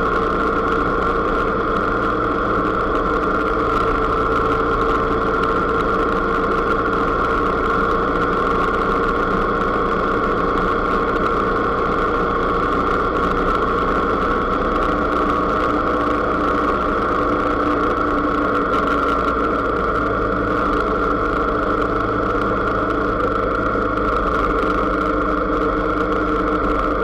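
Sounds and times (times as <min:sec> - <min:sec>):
constant high whine: 0:00.0 - 0:27.0
vehicle engine droning: 0:00.0 - 0:27.0.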